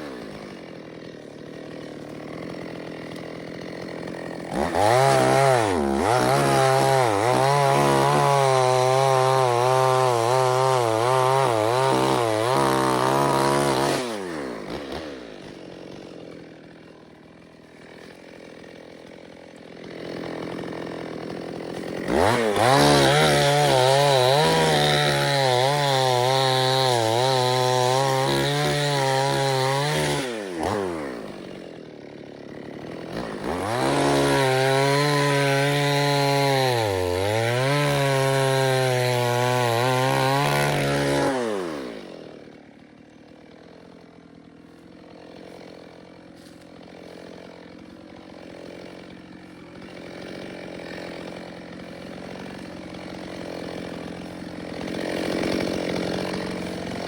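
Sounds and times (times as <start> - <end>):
chainsaw engine at full throttle: 0.0 - 57.0.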